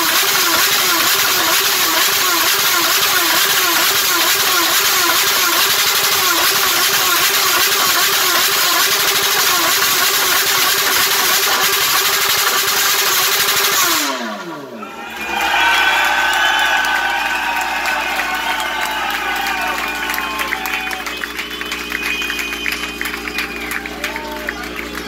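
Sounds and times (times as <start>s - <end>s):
motorcycle engine revving: 0.0s - 15.8s, 16.5s - 25.0s.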